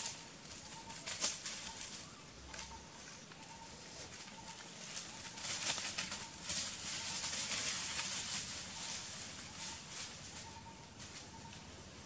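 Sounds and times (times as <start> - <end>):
scattered crackles: 0.0 - 3.4, 4.1 - 11.6
faint steady tone: 0.0 - 12.0.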